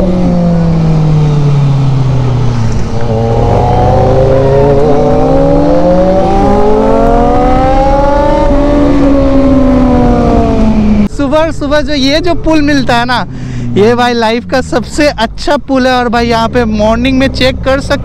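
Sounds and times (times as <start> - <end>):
motorcycle engines accelerating: 0.0 - 18.0.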